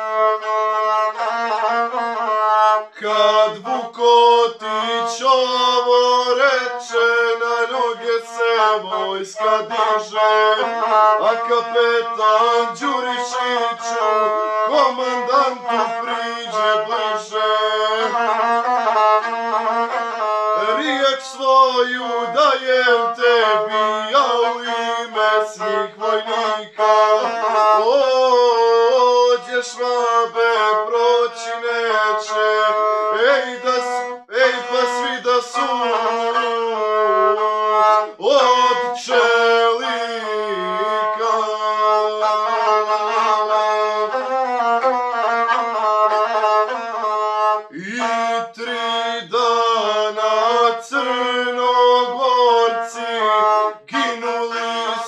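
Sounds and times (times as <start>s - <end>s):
bowed string instrument: 0.0s - 55.0s
man singing: 0.0s - 55.0s.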